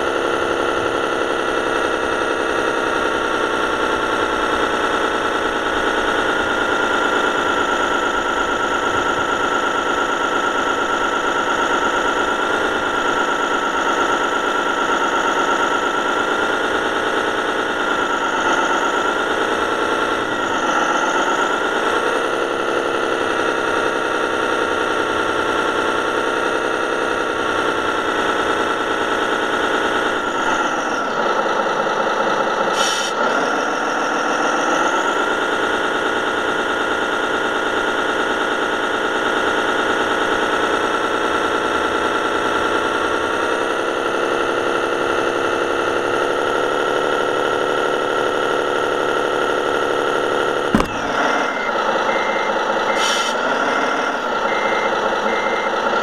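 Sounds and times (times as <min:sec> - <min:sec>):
model truck motor drone: 0:00.0 - 0:56.0.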